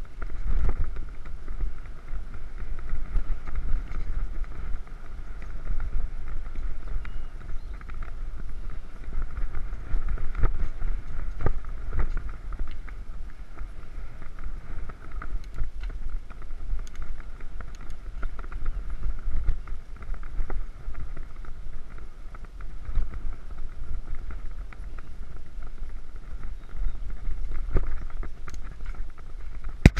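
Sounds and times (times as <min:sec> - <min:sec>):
bike clicking and rattling: 0:00.0 - 0:29.9
tyres humming on dirt: 0:00.0 - 0:29.9
wind rumble on microphone: 0:00.0 - 0:29.9.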